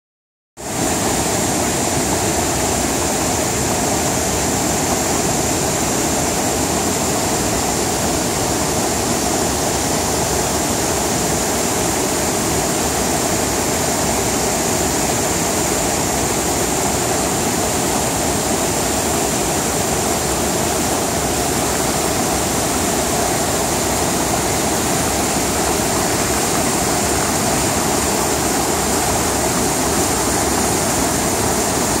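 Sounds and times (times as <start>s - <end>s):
waterfall rushing: 0.6s - 32.0s.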